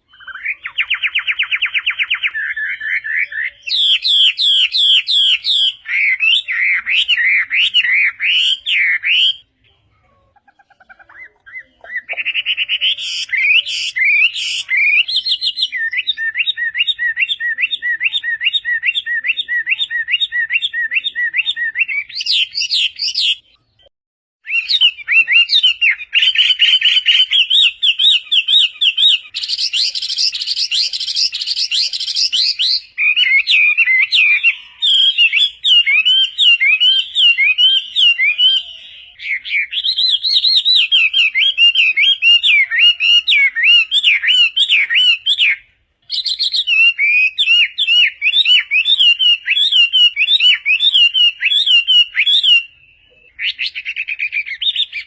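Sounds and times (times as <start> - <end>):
bird singing whistled notes: 0.0 - 9.5, 11.2 - 55.0.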